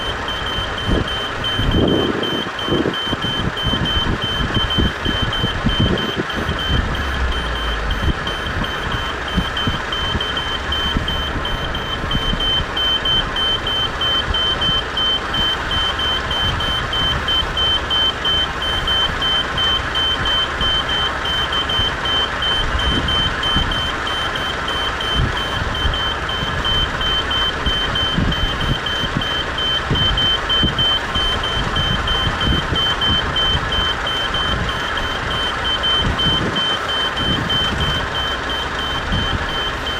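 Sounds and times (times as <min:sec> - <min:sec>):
rapid electronic warning beeps: 0:00.0 - 0:39.9
rumbling background noise: 0:00.0 - 0:39.9.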